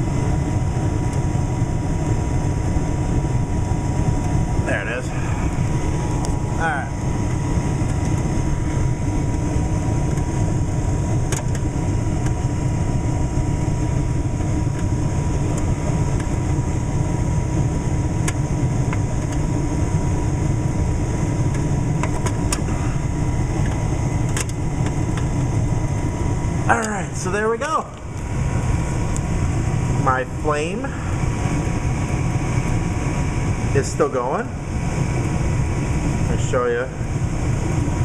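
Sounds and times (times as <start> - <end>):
gas furnace running: 0.0 - 38.0.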